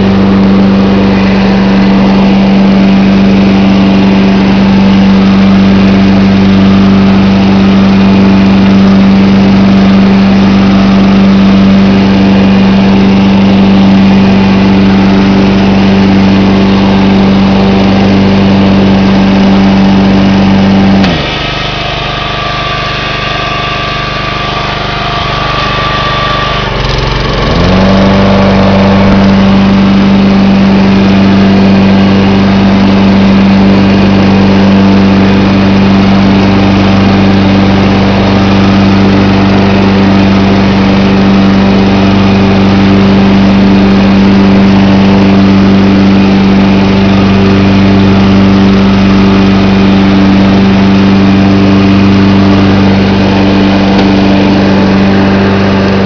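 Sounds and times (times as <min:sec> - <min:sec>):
lawn mower engine cutting grass: 0:00.0 - 0:56.0.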